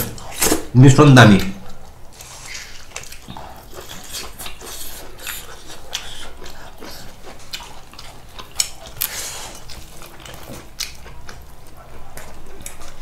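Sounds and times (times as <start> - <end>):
chewing and mouth noises: 1.6 - 13.0.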